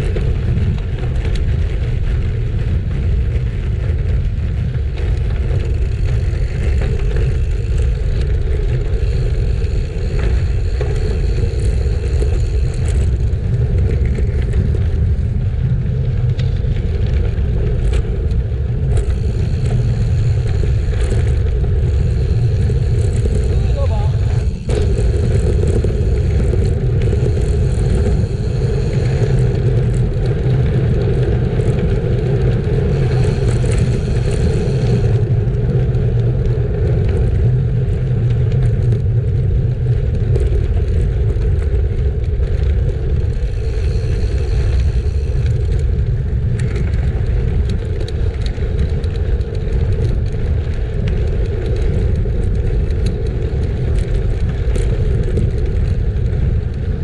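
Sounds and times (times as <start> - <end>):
bicycle tyres on gravel: 0.0 - 57.0
wind buffeting microphone: 0.0 - 57.0.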